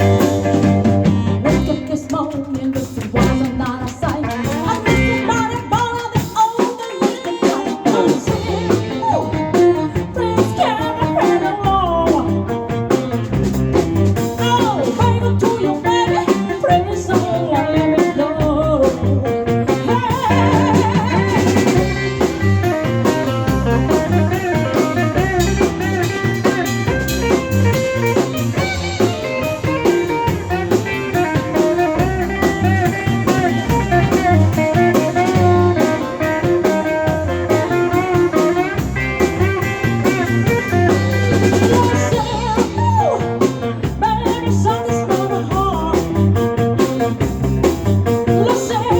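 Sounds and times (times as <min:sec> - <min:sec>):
blues guitar lead: 0:00.0 - 0:48.9
drum kit: 0:00.0 - 0:48.9.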